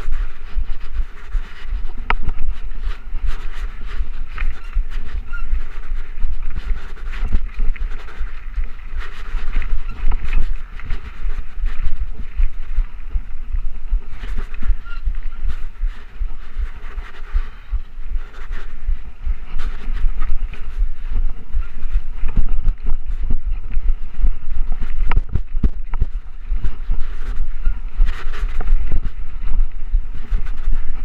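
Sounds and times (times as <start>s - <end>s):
bike tyres on dirt: 0.0s - 31.0s
wind buffeting microphone: 0.0s - 31.0s.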